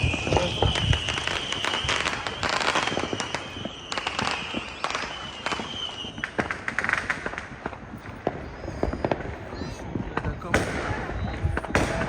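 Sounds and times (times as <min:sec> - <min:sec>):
firecrackers cracking and popping: 0:00.0 - 0:12.0.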